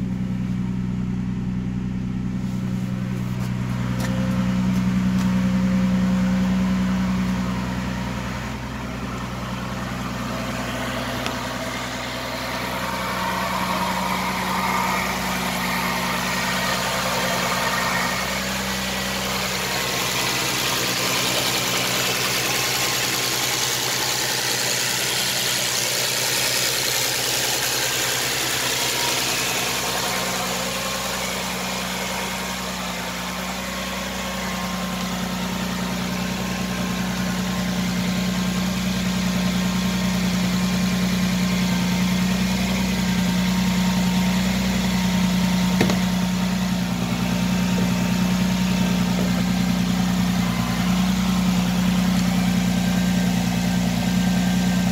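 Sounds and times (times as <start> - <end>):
car engine idling: 0.0 - 54.9
engine bay hiss and whir: 0.0 - 54.9.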